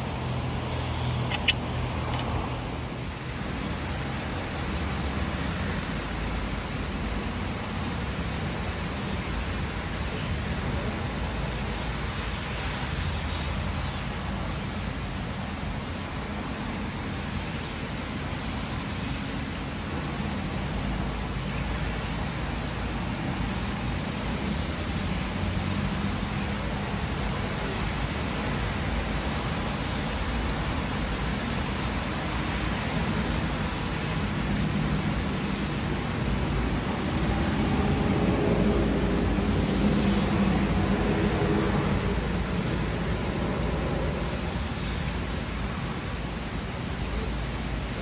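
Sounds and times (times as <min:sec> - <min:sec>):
heavy rain hissing: 0:00.0 - 0:48.0.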